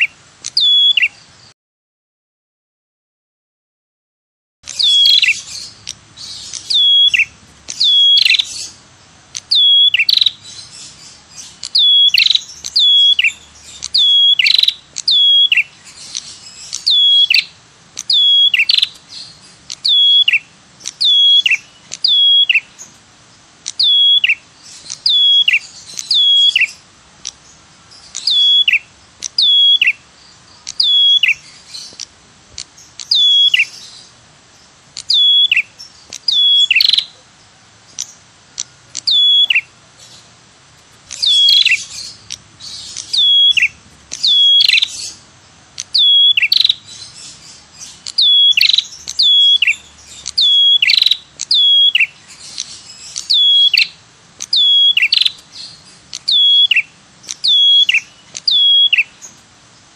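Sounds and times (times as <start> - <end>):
bird calling: 0.0 - 1.5, 4.6 - 59.9.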